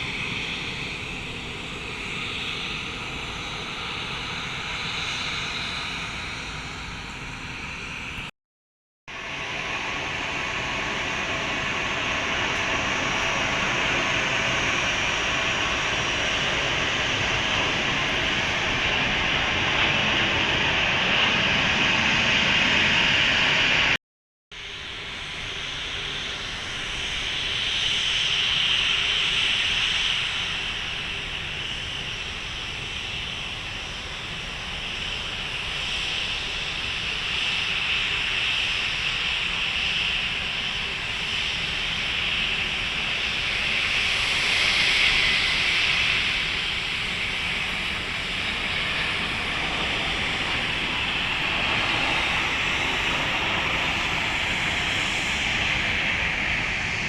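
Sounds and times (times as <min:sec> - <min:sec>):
jet engines roaring: 0:00.0 - 0:08.3, 0:09.1 - 0:24.0, 0:24.6 - 0:57.0.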